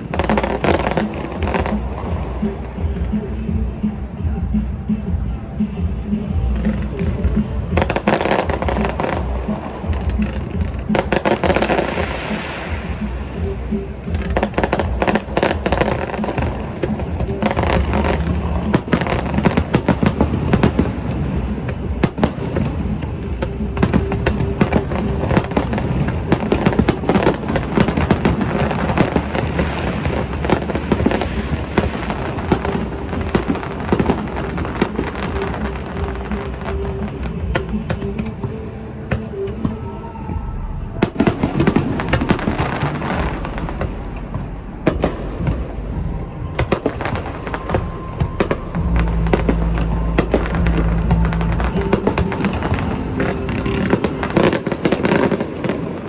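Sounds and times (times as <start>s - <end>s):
continuous low rumble: 0.0s - 56.0s
fireworks bangs and crackling: 0.0s - 56.0s
music playing: 0.0s - 56.0s.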